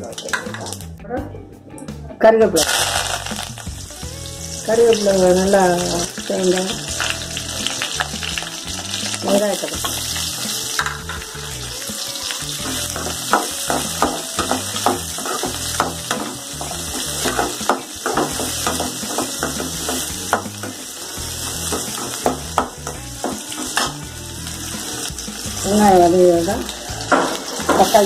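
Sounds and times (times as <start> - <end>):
shallots sizzling in hot oil: 0.0 - 0.8, 2.6 - 28.0.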